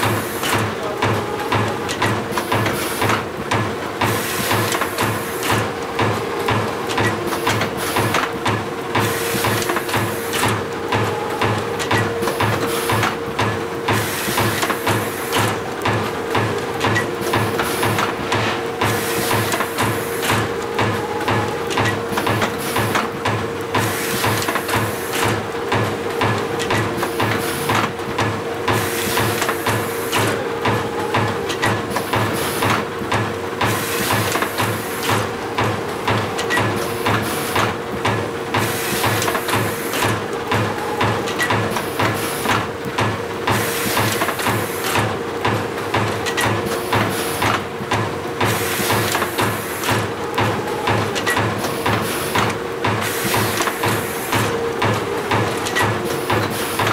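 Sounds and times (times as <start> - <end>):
machine hum with rhythmic beat: 0.0 - 56.9.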